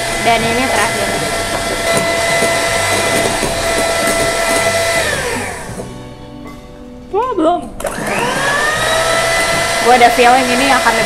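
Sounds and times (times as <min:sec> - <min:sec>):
electric mixer whirring: 0:00.0 - 0:05.9, 0:07.8 - 0:11.0.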